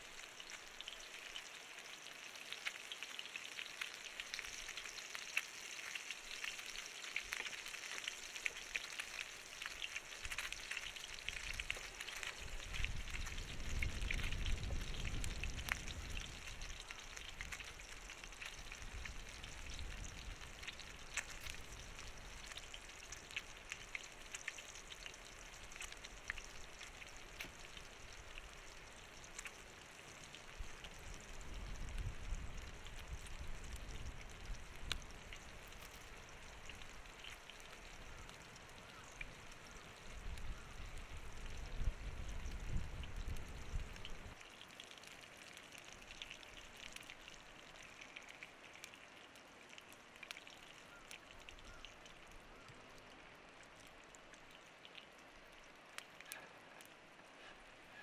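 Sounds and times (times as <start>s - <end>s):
food sizzling and crackling: 0.0s - 52.4s.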